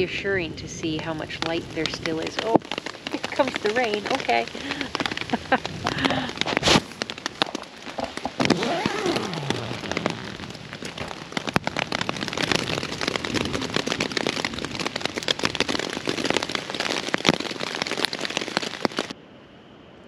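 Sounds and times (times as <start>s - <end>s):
rain falling: 0.0s - 19.2s.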